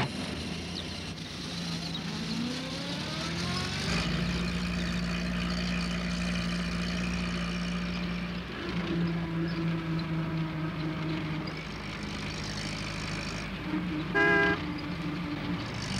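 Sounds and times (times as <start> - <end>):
van engine pulling away: 0.0 - 15.9.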